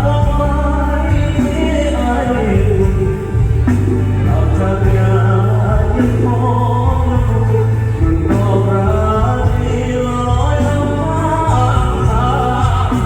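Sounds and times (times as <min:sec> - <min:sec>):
band playing with heavy bass: 0:00.0 - 0:13.0
person singing: 0:00.0 - 0:13.0.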